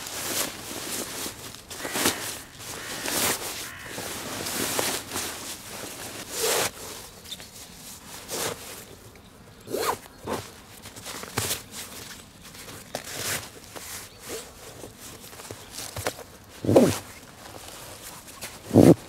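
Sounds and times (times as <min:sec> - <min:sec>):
sleeping bag rustling: 0:00.0 - 0:09.0, 0:09.7 - 0:19.0.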